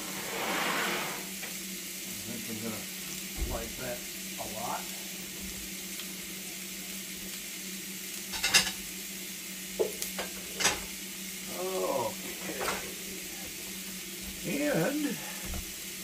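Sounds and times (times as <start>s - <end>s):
steak sizzling in a grill pan: 0.0s - 16.0s.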